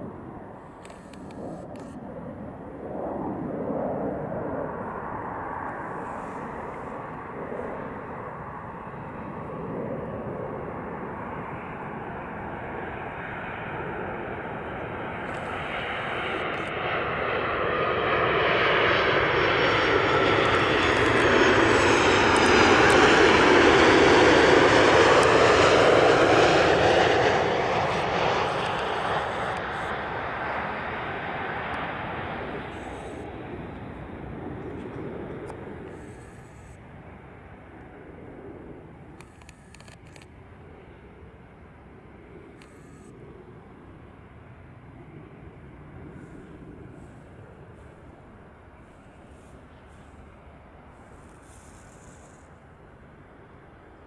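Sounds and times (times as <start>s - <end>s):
jet plane engines on approach: 0.0s - 54.0s.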